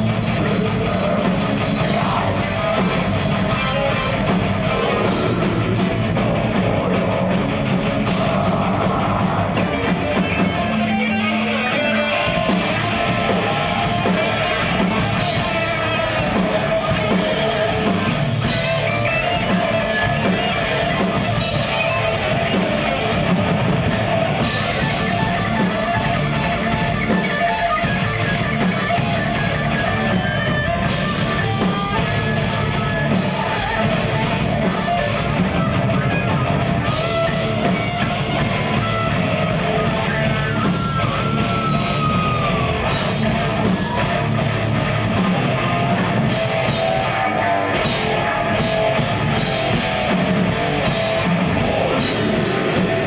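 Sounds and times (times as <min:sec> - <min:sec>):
distorted electric guitars: 0:00.0 - 0:53.0
drum kit: 0:00.0 - 0:53.0.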